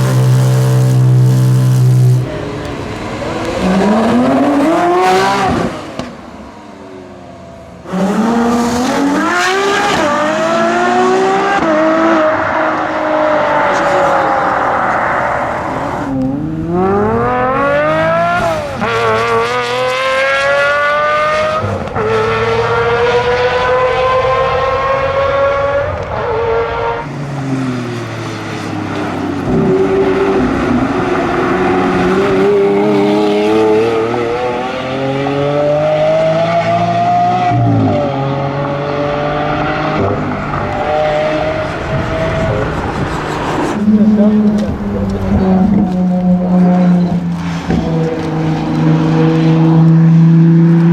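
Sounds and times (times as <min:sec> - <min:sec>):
car engine accelerating through gears: 0:00.0 - 0:06.2, 0:07.8 - 0:50.9.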